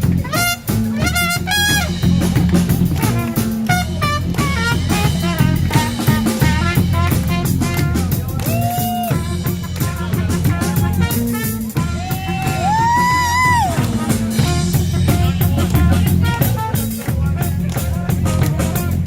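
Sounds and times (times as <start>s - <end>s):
trumpet solo: 0.0s - 17.5s
reggae band playing: 0.0s - 19.0s.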